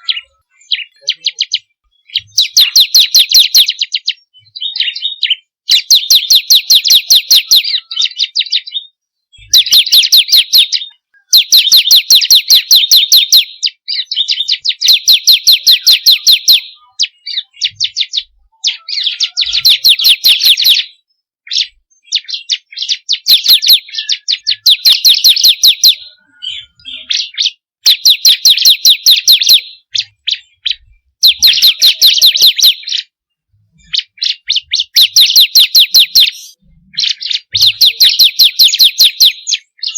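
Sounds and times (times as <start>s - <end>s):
bird singing high chipping notes: 0.0s - 39.9s.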